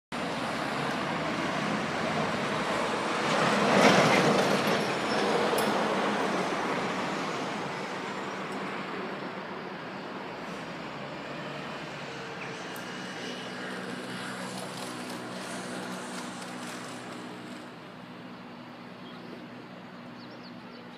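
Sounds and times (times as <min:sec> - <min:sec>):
bus passing: 0:00.1 - 0:20.9
cars passing: 0:00.1 - 0:20.9.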